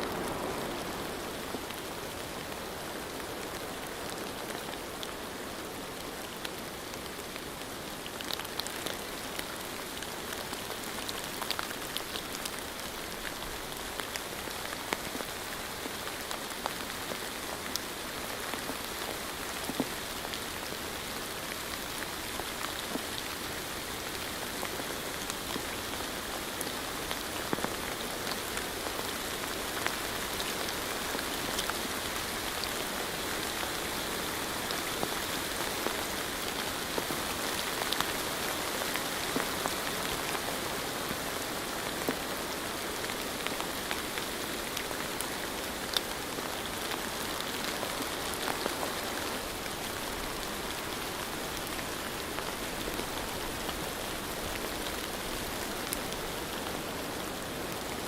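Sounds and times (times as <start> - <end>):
steady rain with ticking drops: 0.0 - 58.0.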